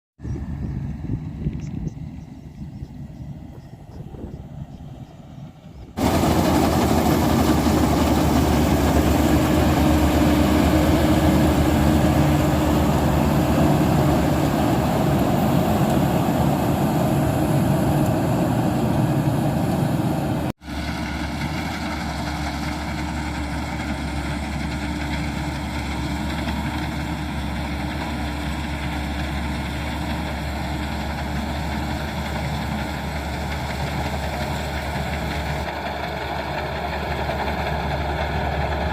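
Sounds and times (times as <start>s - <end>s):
tractor engine running: 3.0s - 38.9s.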